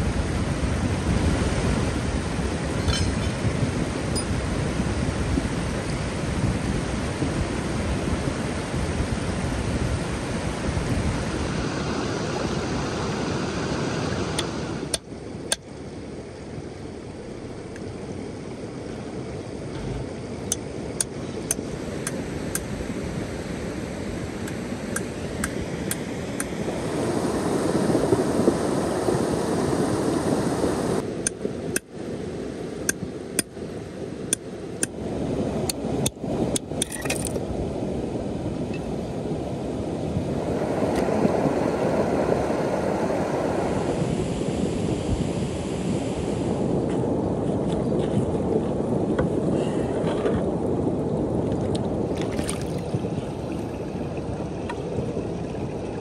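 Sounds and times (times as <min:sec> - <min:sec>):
shallow stony river rushing: 0:00.0 - 0:47.4, 0:50.6 - 0:56.0.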